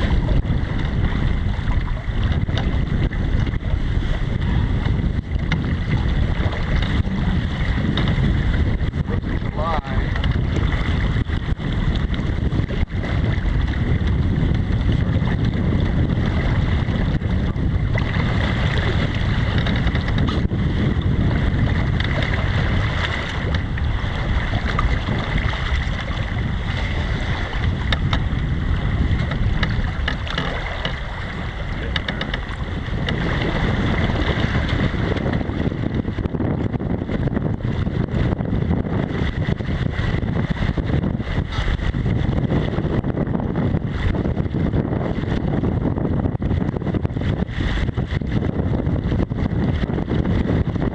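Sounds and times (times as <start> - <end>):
water rushing along boat hull: 0.0 - 50.9
wind buffeting microphone: 0.0 - 50.9.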